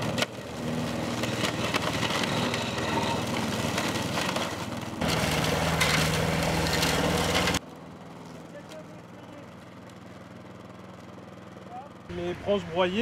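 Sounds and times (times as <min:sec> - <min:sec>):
mower blade shredding twigs: 0:00.0 - 0:12.1
lawn mower engine drone: 0:00.0 - 0:13.0.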